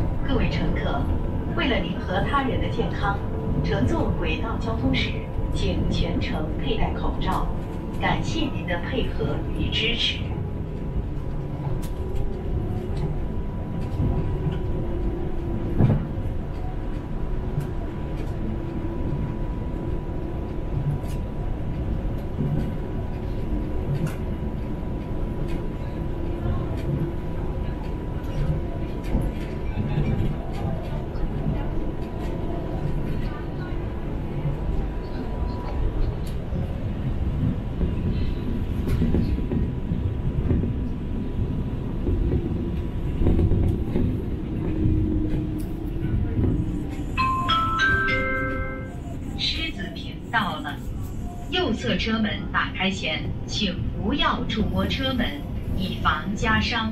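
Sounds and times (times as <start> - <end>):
train interior rumble: 0.0 - 56.9.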